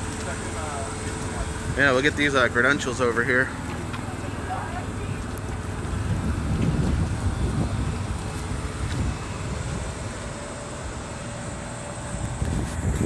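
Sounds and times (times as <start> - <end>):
wind buffeting microphone: 0.9 - 13.0.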